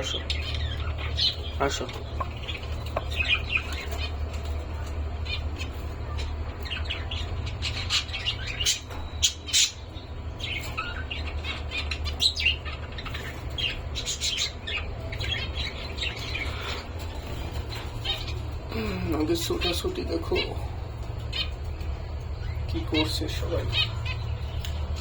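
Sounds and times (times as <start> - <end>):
cockatiels chirping: 0.0 - 18.6, 19.2 - 25.0.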